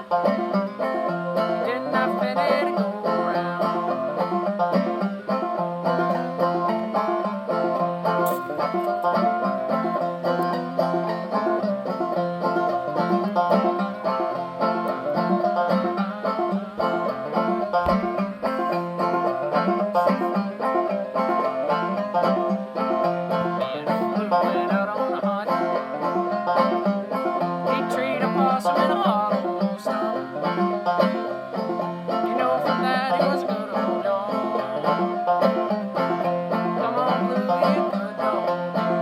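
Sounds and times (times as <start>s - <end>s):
banjo playing: 0.0s - 39.0s.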